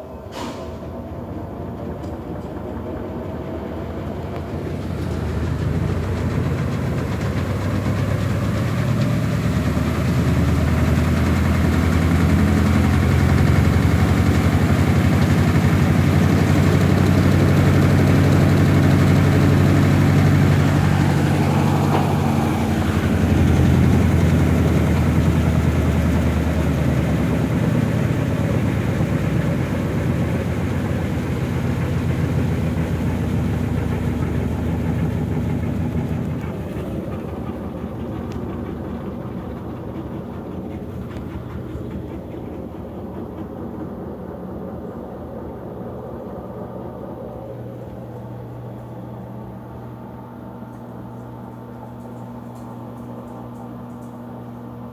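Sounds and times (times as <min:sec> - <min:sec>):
washing machine droning and pulsing: 0:00.0 - 0:54.9.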